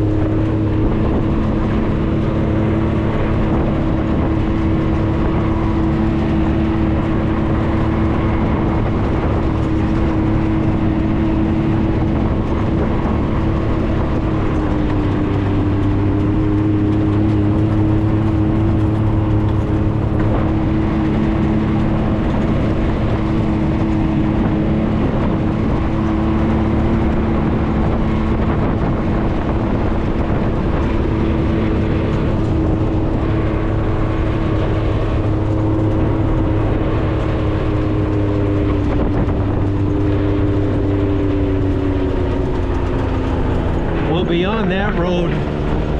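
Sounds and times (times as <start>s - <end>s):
deep low engine note: 0.0s - 45.9s
vehicle engine driving: 0.0s - 45.9s.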